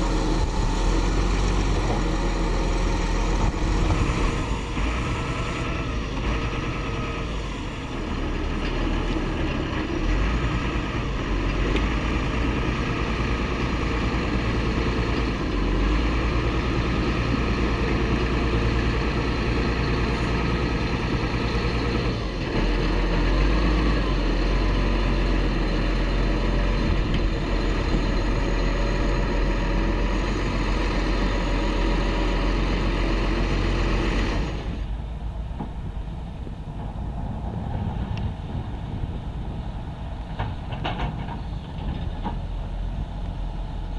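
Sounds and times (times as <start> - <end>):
heavy diesel engines rumbling: 0.0 - 43.9.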